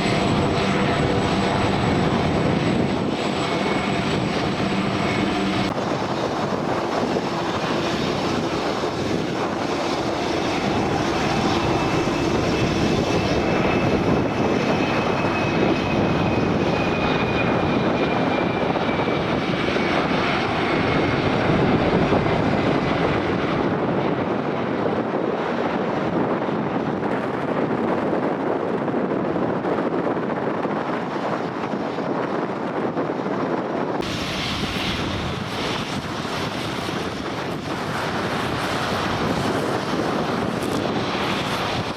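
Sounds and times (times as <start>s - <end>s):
aircraft engines rushing: 0.0s - 41.9s.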